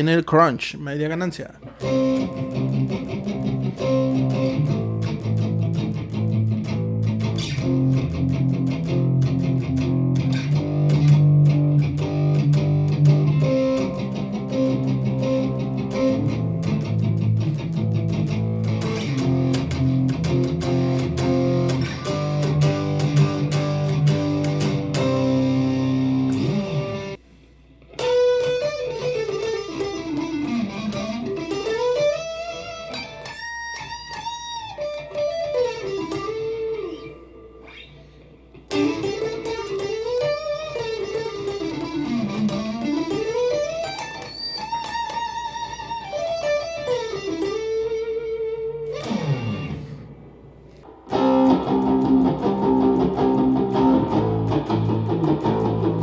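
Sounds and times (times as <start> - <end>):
electric guitar chugging chords: 1.6 - 27.2, 27.9 - 56.0
electric guitar lead phrase: 1.6 - 27.2, 27.9 - 56.0.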